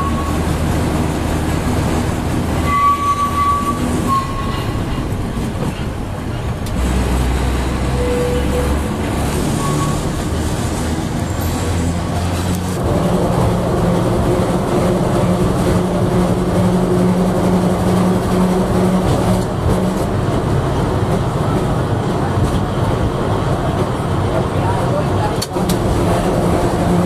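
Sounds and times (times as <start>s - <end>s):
tram wheels rumbling on rail: 0.0s - 27.0s.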